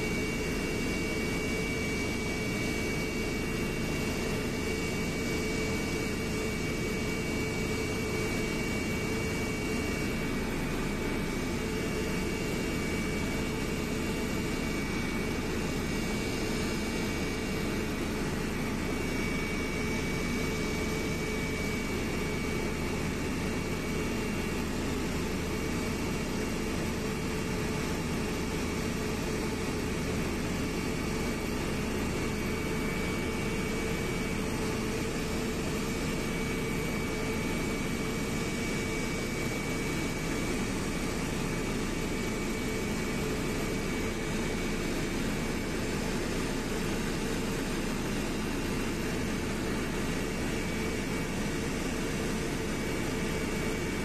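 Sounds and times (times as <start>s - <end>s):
airliner cabin engine drone: 0.0s - 54.0s
faint high whine: 0.0s - 54.0s.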